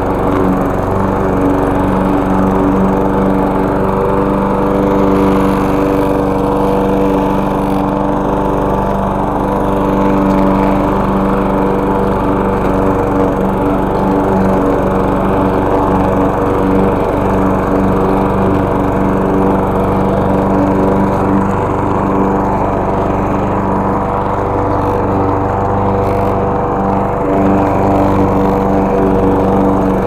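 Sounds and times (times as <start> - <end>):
push mower engine running: 0.0 - 30.0.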